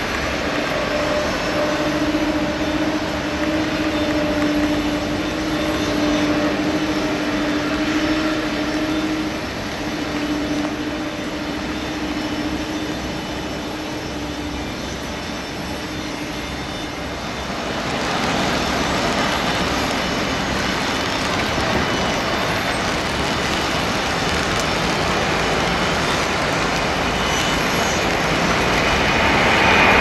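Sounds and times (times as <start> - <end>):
jet engine rushing: 0.0 - 30.0.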